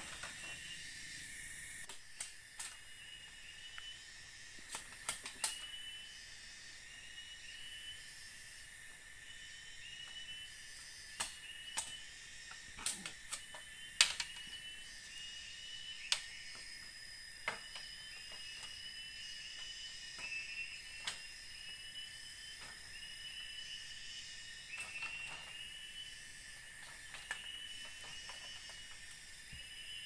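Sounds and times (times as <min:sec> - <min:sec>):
forest insects chirping: 0:00.0 - 0:30.0.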